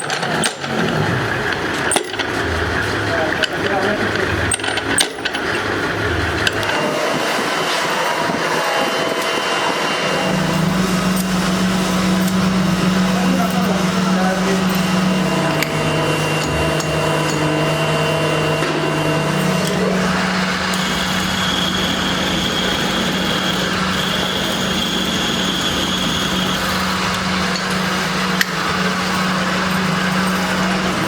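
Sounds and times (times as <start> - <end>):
high whine: 0.0 - 31.0
workshop machine motor hum: 0.0 - 31.0.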